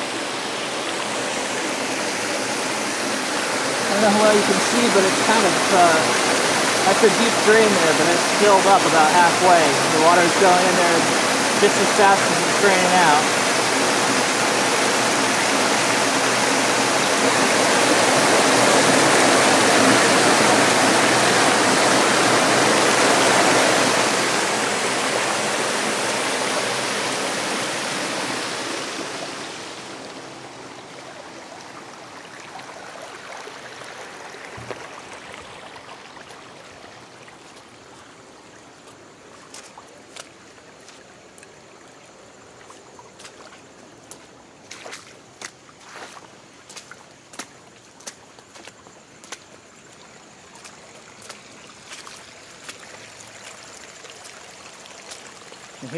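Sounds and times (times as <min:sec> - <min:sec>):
water rushing down storm drain: 0:00.0 - 0:55.9.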